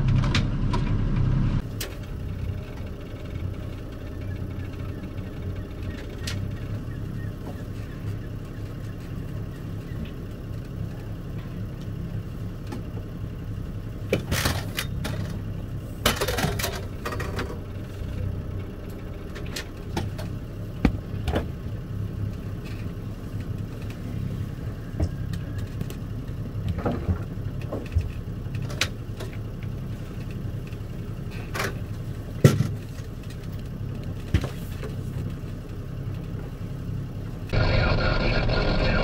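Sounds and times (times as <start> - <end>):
boat engine running: 0.0 - 39.0.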